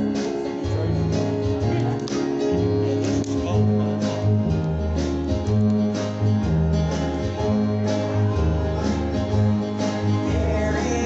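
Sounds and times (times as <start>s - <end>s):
acoustic guitar strummed: 0.0s - 11.0s
bass line: 0.0s - 11.0s.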